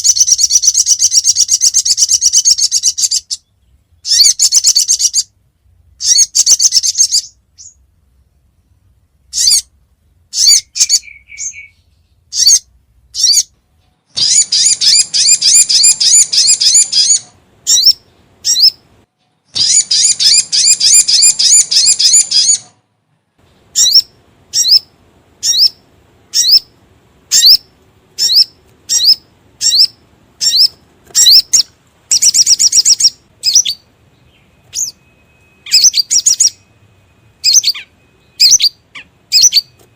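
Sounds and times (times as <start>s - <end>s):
bird calling sharp high chips: 0.0s - 5.3s, 6.0s - 7.8s, 10.3s - 13.5s, 14.1s - 18.8s, 19.5s - 22.8s, 23.7s - 26.7s, 27.3s - 36.7s, 37.4s - 39.9s
bird chattering trill: 0.0s - 5.4s, 6.0s - 7.8s, 9.3s - 9.7s, 10.3s - 13.5s, 14.1s - 18.8s, 19.5s - 22.7s, 23.7s - 36.7s, 37.4s - 39.8s.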